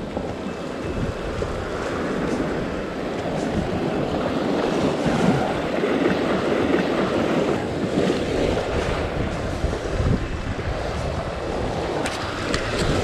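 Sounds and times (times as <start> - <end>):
waves breaking on rocks: 0.0 - 13.0
wind buffeting microphone: 0.0 - 13.0.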